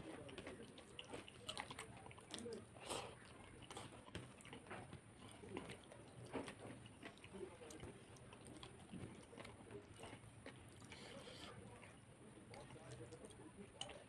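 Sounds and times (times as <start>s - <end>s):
chewing: 0.0s - 14.0s
hand mixing rice wet squishes: 0.0s - 14.0s.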